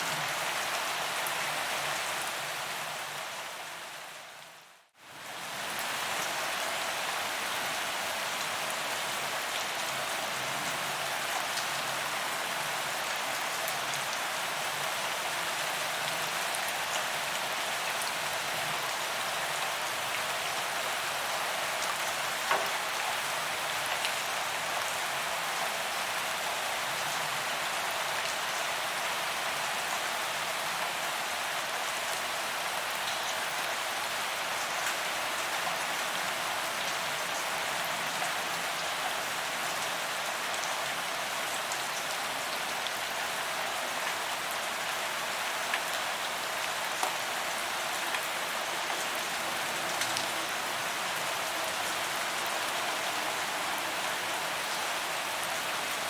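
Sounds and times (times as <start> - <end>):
rain falling on pavement: 0.0 - 56.0.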